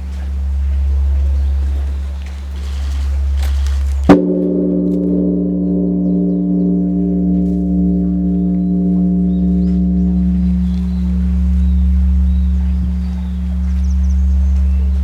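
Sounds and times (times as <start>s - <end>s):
large temple bell ringing: 0.0s - 15.0s.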